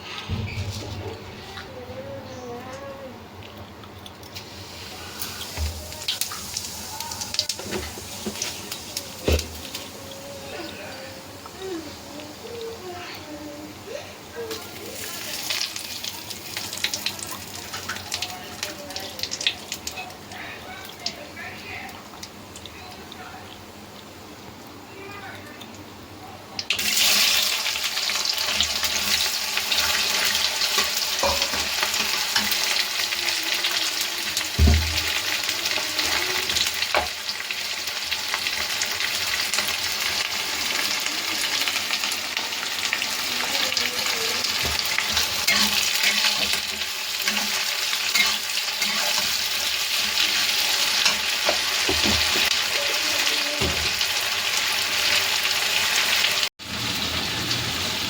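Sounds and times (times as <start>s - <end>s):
food sizzling in oil: 4.3s - 13.8s, 14.4s - 24.5s, 26.6s - 58.0s.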